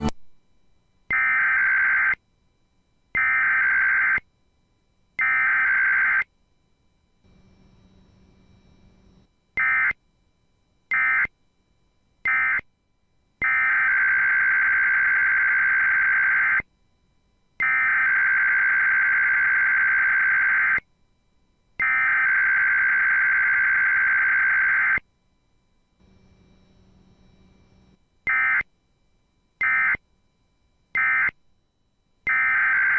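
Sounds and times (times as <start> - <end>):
faint low hum: 0.0 - 32.9.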